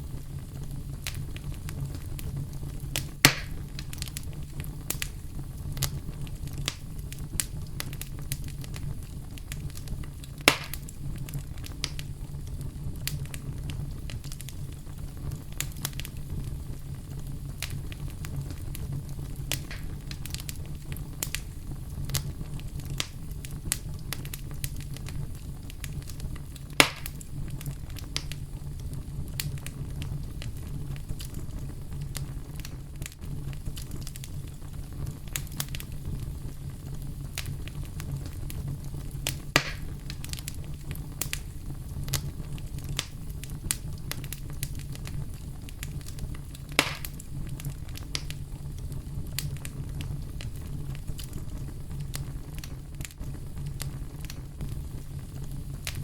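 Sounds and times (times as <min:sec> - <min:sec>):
campfire crackling: 0:00.0 - 0:56.0
loud fire pops: 0:00.0 - 0:56.0.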